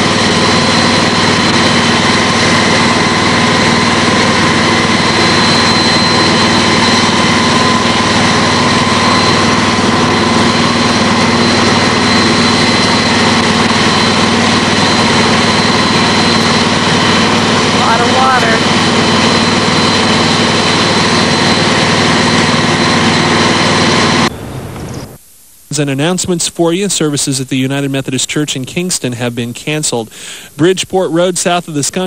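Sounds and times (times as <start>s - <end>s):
water pumps humming: 0.0s - 31.8s
faint high whine: 0.0s - 32.0s.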